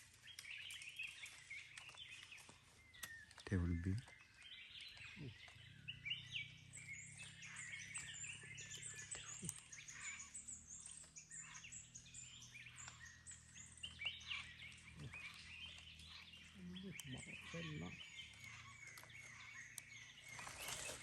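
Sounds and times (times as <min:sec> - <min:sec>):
birds chirping chorus: 0:00.0 - 0:21.0.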